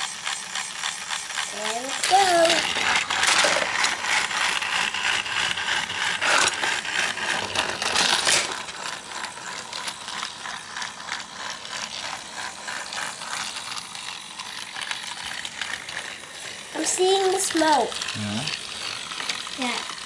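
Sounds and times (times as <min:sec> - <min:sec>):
toy train motor clicking rattle: 0:00.0 - 0:20.0.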